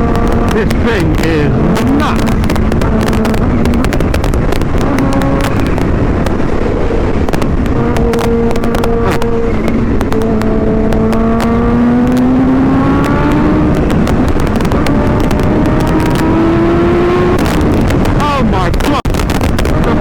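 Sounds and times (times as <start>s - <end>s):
motorcycle engine under throttle: 0.0s - 18.2s, 19.1s - 20.0s
wind noise on microphone: 0.0s - 20.0s.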